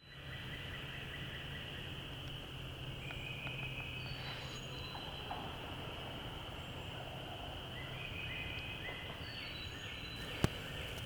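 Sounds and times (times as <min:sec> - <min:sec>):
songbird notes: 0:00.0 - 0:11.0.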